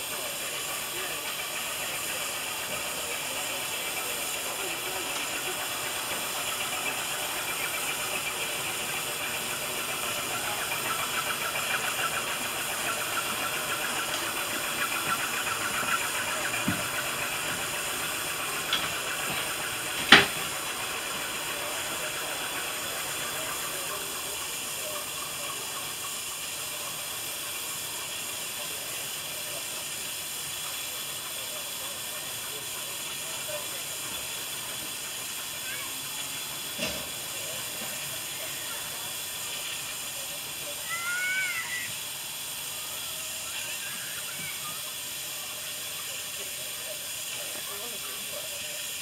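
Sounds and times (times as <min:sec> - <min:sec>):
steam hissing: 0:00.0 - 0:49.0.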